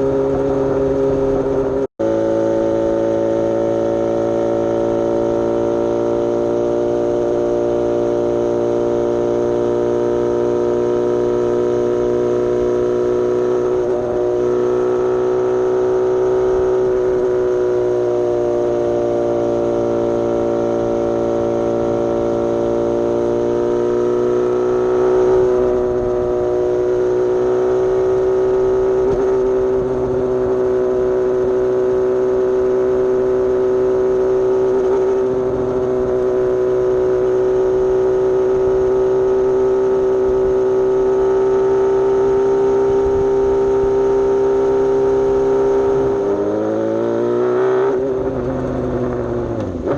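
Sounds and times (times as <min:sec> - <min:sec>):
motorcycle engine riding: 0:00.0 - 0:49.9.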